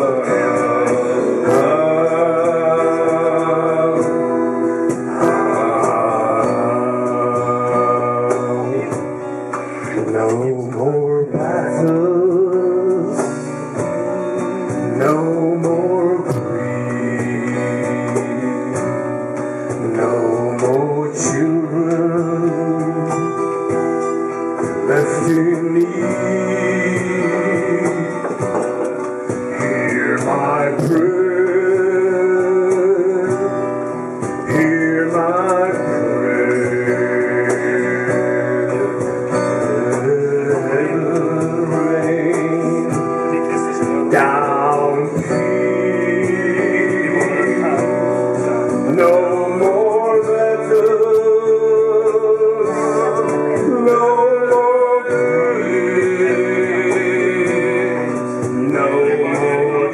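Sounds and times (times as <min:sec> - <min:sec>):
acoustic guitars strummed and picked: 0:00.0 - 0:59.9
man singing: 0:00.0 - 0:59.9.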